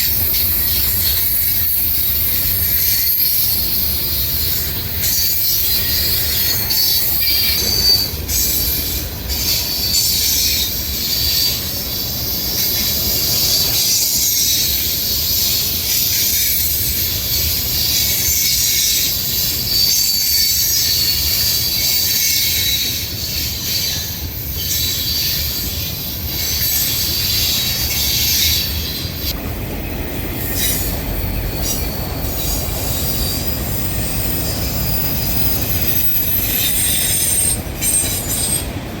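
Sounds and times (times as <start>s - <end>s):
metallic wheel squeal: 0.0s - 39.0s
railroad cars rumbling: 0.0s - 39.0s.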